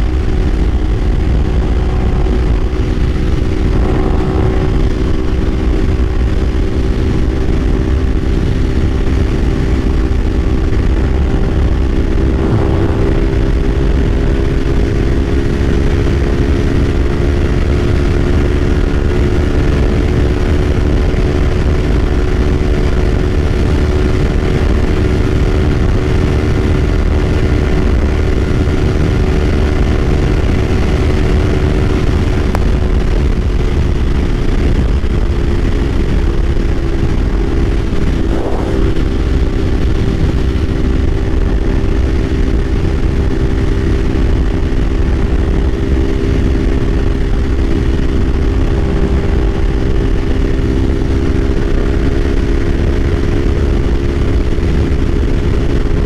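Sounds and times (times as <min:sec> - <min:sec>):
low rumble of wind: 0:00.0 - 0:56.0
motorcycle engine cruising: 0:00.0 - 0:56.0.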